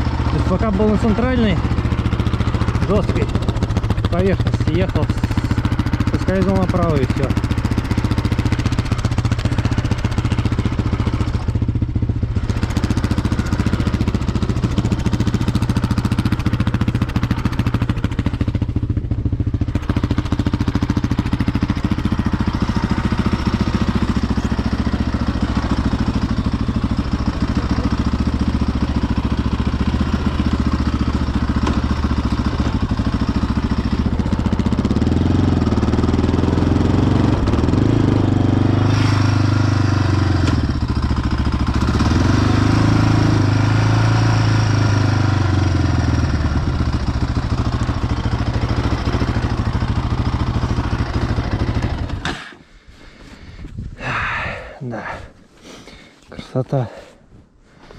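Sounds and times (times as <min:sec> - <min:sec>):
quad bike engine running and revving: 0:00.0 - 0:52.4.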